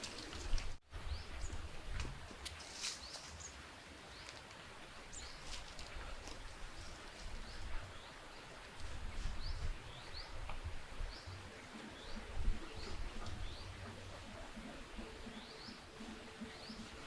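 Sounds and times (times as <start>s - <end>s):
small birds chirping: 0.0s - 1.8s, 2.4s - 17.0s.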